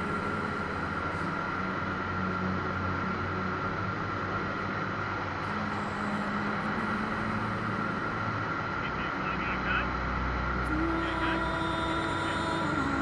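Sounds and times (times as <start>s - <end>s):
aircraft engine and propeller drone: 0.0s - 13.0s
high whine: 0.0s - 13.0s.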